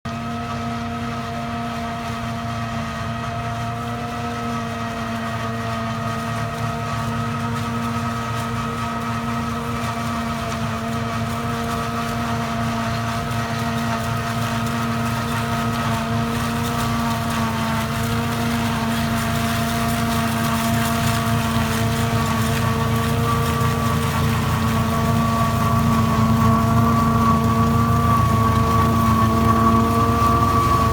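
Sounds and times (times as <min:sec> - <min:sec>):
harvester machine hum: 0:00.1 - 0:30.9.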